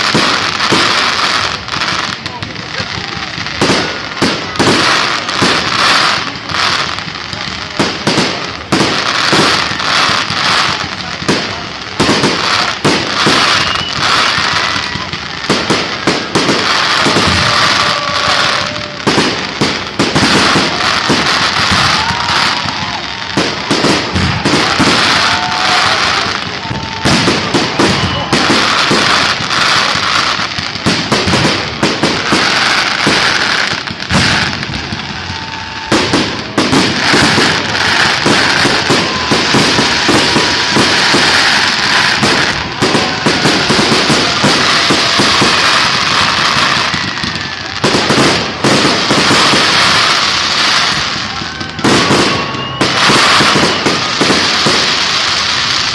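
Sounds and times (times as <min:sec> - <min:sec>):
fireworks bangs: 0:00.0 - 0:55.9
fireworks crackling: 0:00.0 - 0:55.9.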